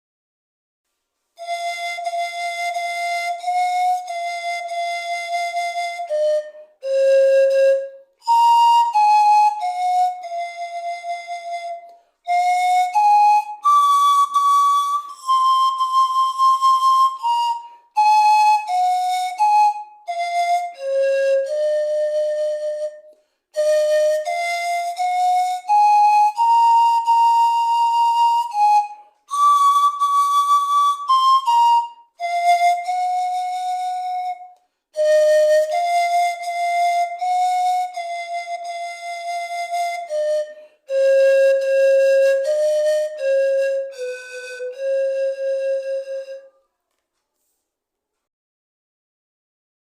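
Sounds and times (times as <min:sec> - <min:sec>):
pan flute melody: 0:01.4 - 0:46.8.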